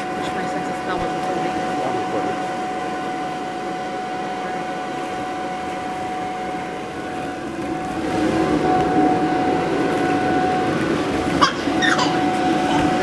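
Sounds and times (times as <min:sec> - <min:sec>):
electric blower whirring: 0:00.0 - 0:13.0.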